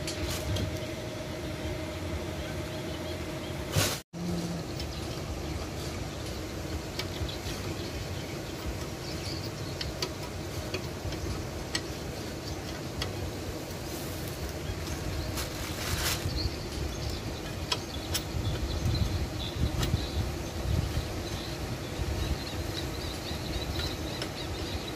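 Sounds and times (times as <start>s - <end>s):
outdoor background hiss: 0.0s - 24.9s.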